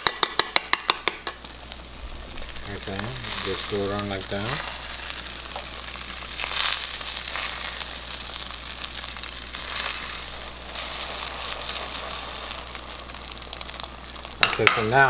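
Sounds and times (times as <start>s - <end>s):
omelet sizzling in frying pan: 0.0s - 15.0s.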